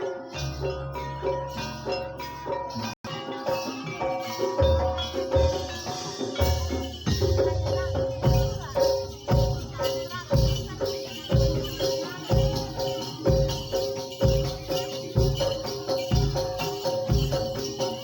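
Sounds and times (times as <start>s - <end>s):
jingling percussion: 0.0s - 18.0s
repeating metallic tones: 0.0s - 18.0s.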